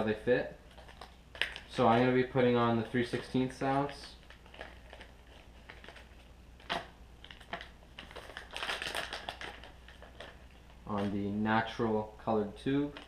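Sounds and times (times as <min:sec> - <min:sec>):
plastic packets crinkling: 0:00.6 - 0:11.8.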